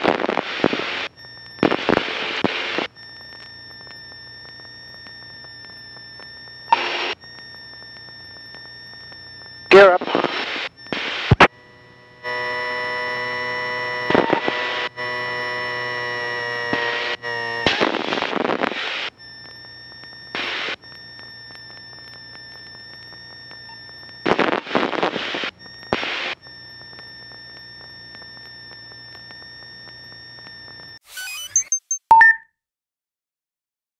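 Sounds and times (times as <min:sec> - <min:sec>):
radio noise bursts: 0:00.0 - 0:32.0
steady electronic whine: 0:00.0 - 0:32.0
buzzing tone: 0:00.0 - 0:32.4.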